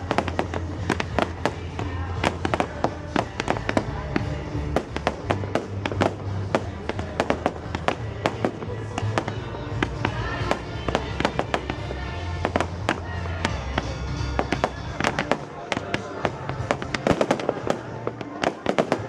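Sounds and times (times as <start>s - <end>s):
fireworks bangs and crackles: 0.0s - 19.0s
music on loudspeakers: 0.0s - 19.0s.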